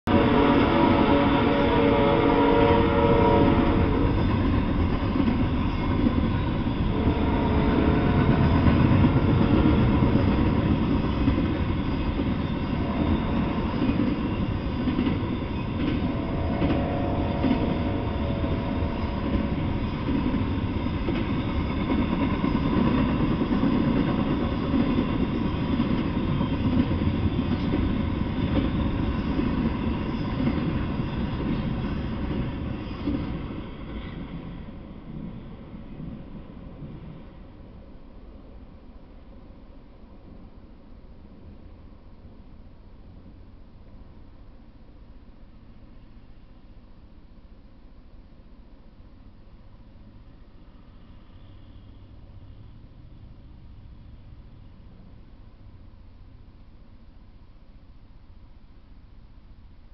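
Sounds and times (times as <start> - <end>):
freight train rumbling and rattling: 0.1 - 59.9.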